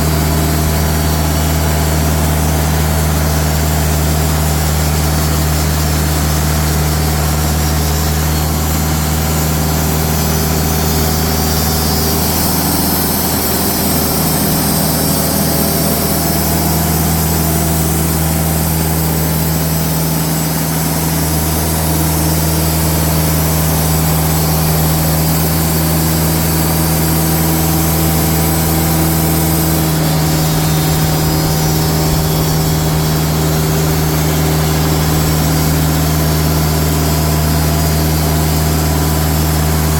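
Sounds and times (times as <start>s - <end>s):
sawmill diesel engine running: 0.0s - 39.9s.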